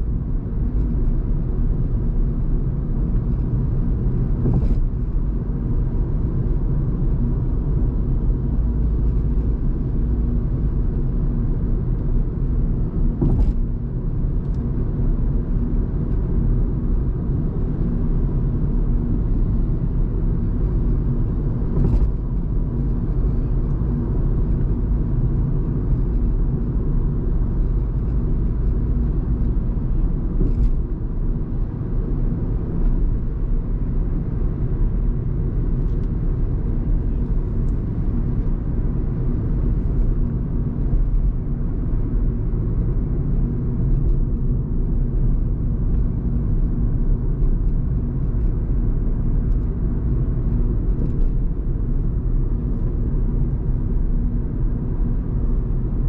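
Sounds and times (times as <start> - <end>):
road and tyre rumble in car: 0.0 - 56.0.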